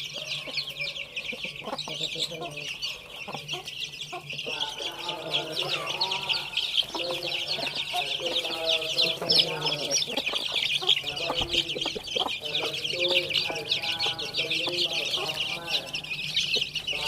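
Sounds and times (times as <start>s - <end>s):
chicks peeping: 0.0s - 17.0s
hens clucking: 0.0s - 17.0s.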